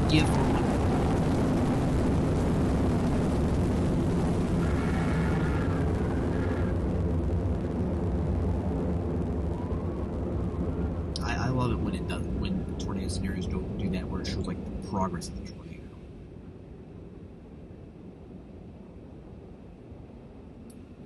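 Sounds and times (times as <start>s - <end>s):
deep steady rumble: 0.0s - 21.0s.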